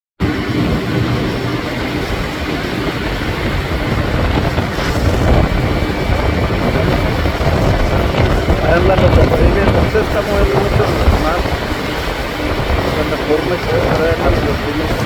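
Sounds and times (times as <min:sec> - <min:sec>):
boat motor running: 0:00.2 - 0:15.0.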